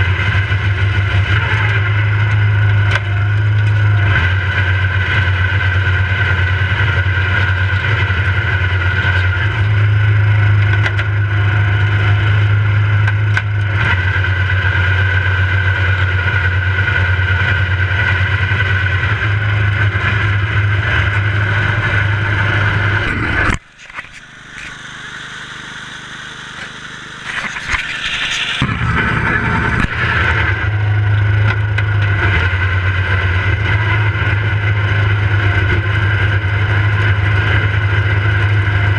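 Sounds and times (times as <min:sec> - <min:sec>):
riding lawn mower engine: 0:00.0 - 0:38.9.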